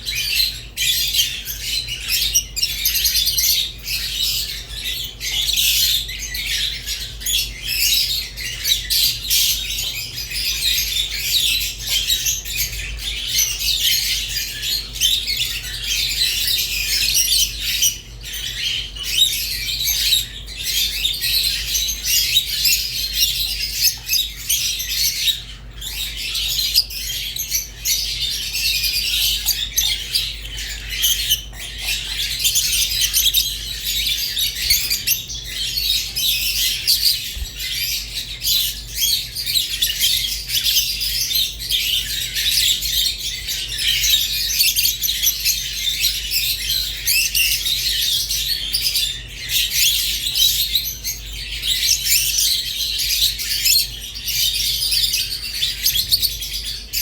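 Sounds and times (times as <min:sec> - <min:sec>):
lovebirds chirping and squawking: 0:00.0 - 0:57.0.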